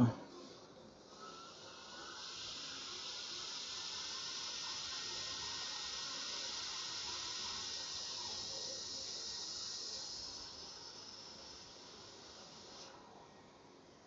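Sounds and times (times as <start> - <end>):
hot-air station hissing: 0.0 - 14.0.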